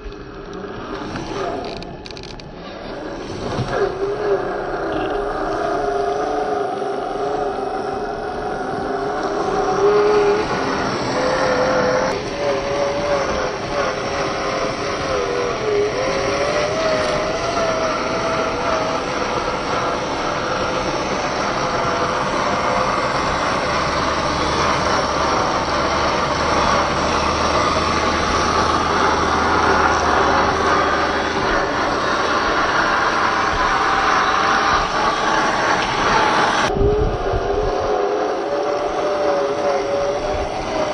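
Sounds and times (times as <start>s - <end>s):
electric motor whine: 0.0s - 40.9s
gears and tyres on ground: 0.0s - 40.9s.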